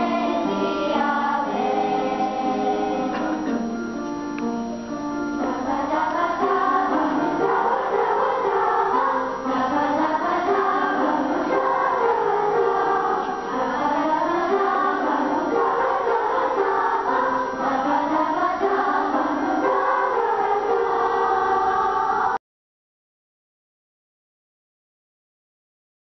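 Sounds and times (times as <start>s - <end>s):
children's choir singing: 0.0s - 22.4s
piano accompaniment: 0.0s - 22.4s.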